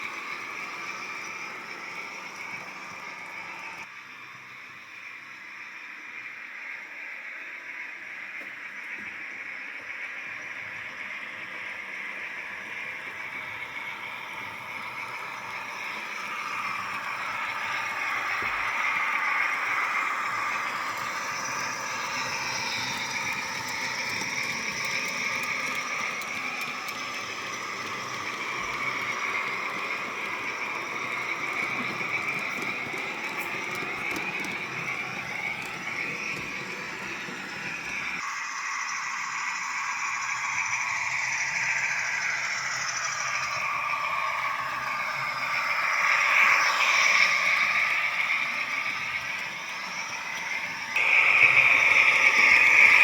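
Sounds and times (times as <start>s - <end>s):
wheels rumbling on rails: 0.0s - 3.9s, 6.6s - 53.0s
model train motor whirring: 0.0s - 53.0s.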